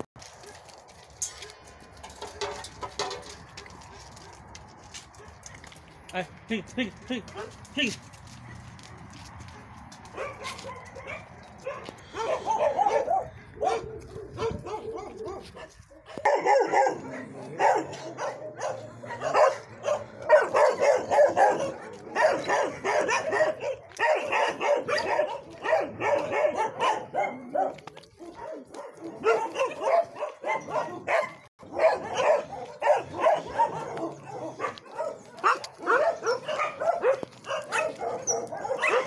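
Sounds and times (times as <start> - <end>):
dogs barking and yipping: 0.0 - 5.9, 7.0 - 39.0.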